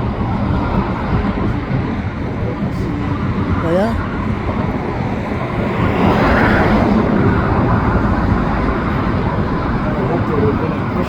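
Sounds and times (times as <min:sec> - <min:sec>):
freight train rolling past: 0:00.0 - 0:11.0
highway traffic rumble: 0:00.0 - 0:11.0
vehicle passing close: 0:00.0 - 0:11.0.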